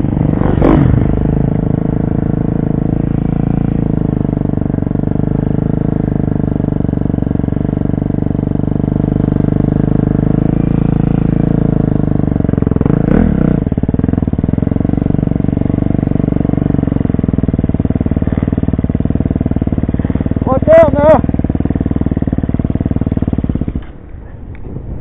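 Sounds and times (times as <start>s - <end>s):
dirt bike engine running: 0.0s - 24.3s.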